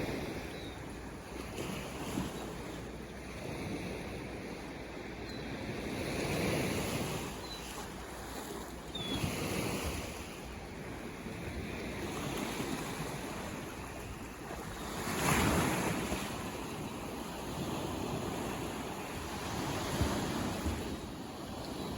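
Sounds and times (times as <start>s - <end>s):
ocean waves breaking on shore: 0.0s - 21.9s.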